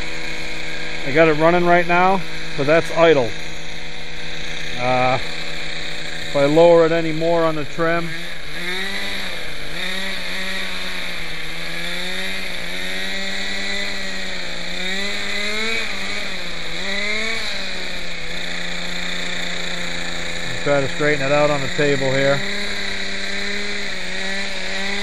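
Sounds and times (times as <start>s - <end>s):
model helicopter engine idling: 0.0s - 25.0s.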